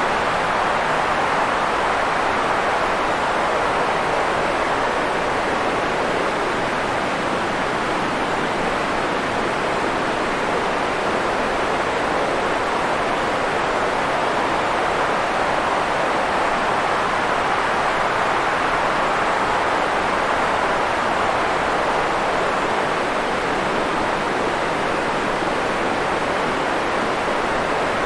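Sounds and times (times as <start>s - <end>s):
steady white noise hiss: 0.0s - 28.0s.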